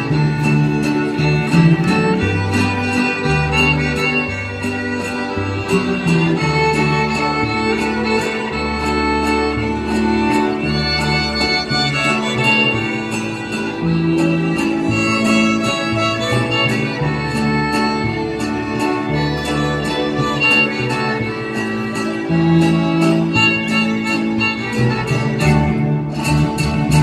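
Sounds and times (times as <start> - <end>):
bass line: 0.0 - 27.0
strummed guitars: 0.0 - 27.0
violins playing melody: 0.0 - 27.0.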